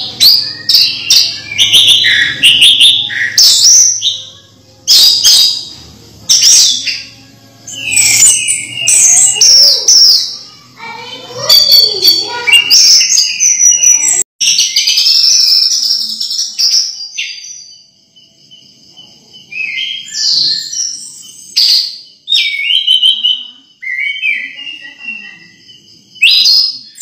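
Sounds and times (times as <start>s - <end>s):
thrush singing whistled phrases: 0.0s - 5.7s, 6.3s - 17.8s, 19.5s - 25.6s, 26.2s - 27.0s.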